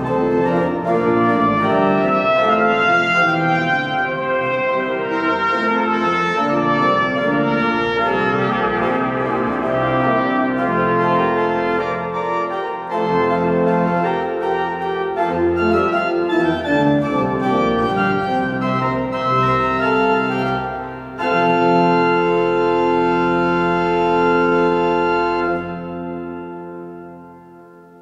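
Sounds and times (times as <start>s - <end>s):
pipe organ chords: 0.0s - 28.0s.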